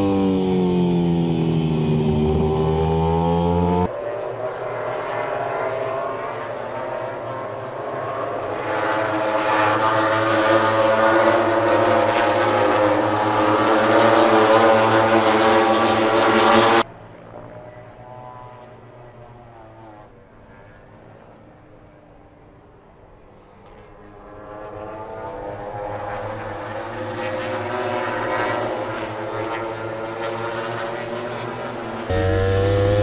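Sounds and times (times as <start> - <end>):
racing motorcycles passing: 0.0 - 20.1, 23.8 - 33.0.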